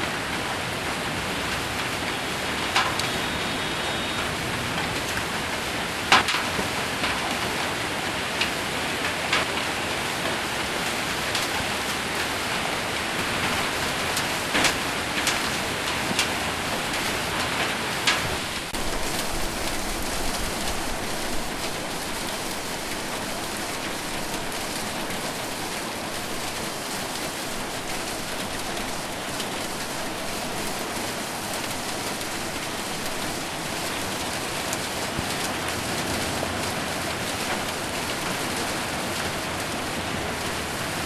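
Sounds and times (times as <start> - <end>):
heavy rain on a roof: 0.0 - 41.0
hailstones ticking: 0.3 - 41.0.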